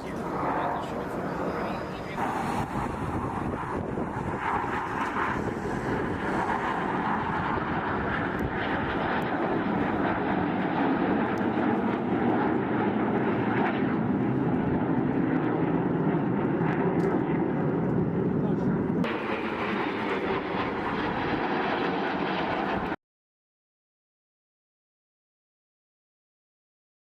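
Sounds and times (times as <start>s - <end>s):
jet engine rushing: 0.0s - 23.0s.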